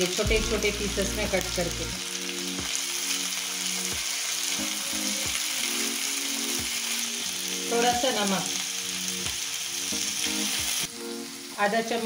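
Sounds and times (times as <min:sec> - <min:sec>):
soft background music: 0:00.0 - 0:12.0
vegetables sizzling in hot oil: 0:00.0 - 0:12.0.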